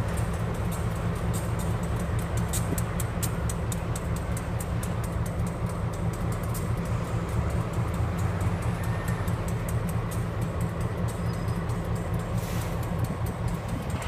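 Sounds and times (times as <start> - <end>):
diesel locomotive drone: 0.0 - 14.0
sharp high ticks: 0.0 - 14.0.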